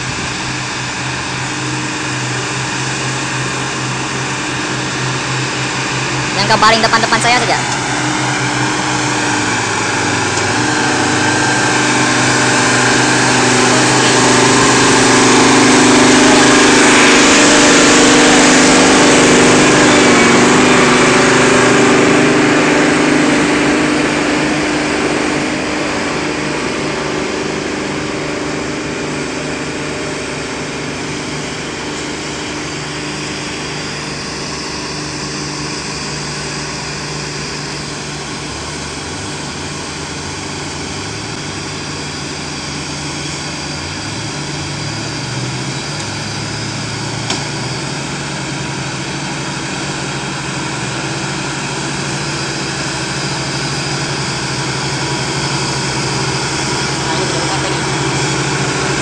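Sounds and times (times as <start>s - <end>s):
heavy diesel truck engine: 0.0s - 59.0s.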